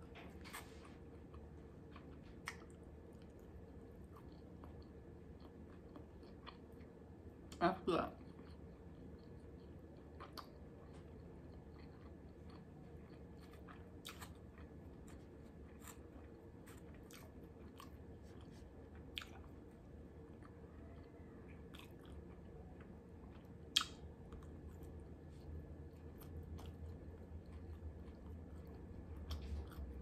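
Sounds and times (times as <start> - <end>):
chewing food: 0.0 - 30.0.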